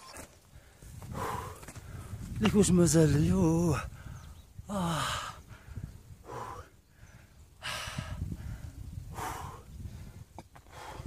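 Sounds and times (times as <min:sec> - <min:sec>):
man breathing heavily: 0:00.2 - 0:02.4, 0:03.7 - 0:11.0.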